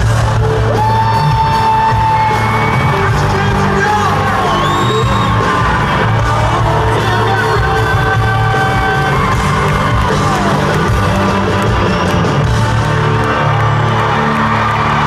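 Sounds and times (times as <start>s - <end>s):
crowd yelling and whooping: 0.0s - 15.0s
live country-rock band: 0.0s - 15.0s.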